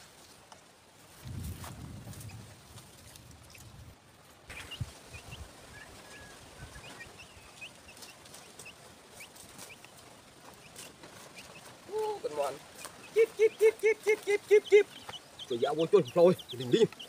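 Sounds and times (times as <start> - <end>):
small birds chirping: 2.2 - 17.0.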